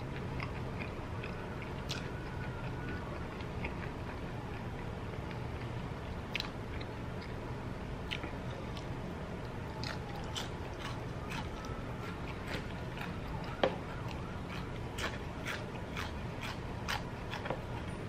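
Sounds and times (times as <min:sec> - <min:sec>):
person chewing with wet clicks: 0:00.0 - 0:07.4, 0:08.0 - 0:18.0.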